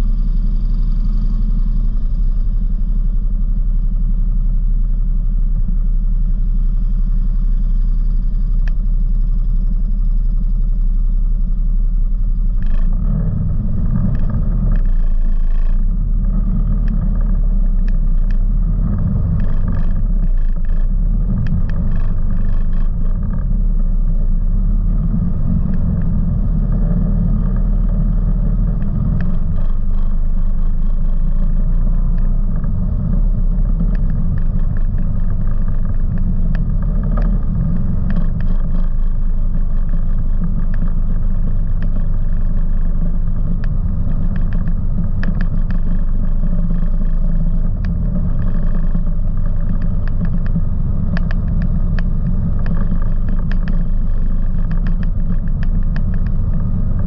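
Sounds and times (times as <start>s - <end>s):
gravel clicks under tyres: 0.0s - 57.0s
off-road vehicle engine running: 0.0s - 57.0s.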